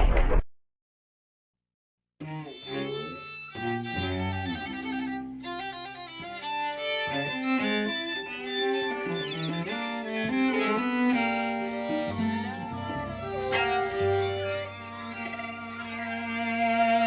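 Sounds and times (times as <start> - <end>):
violin and cello music: 2.2 - 17.0.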